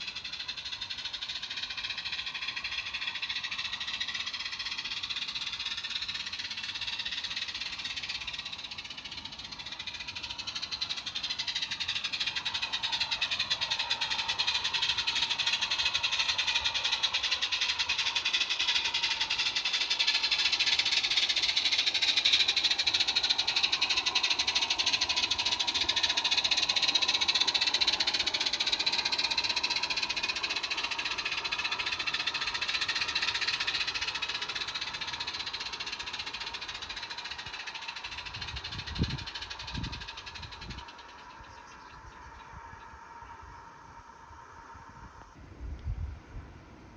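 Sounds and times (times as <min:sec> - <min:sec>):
rapid fine ticking: 0:00.0 - 0:45.4
model train motor whine: 0:00.0 - 0:46.9.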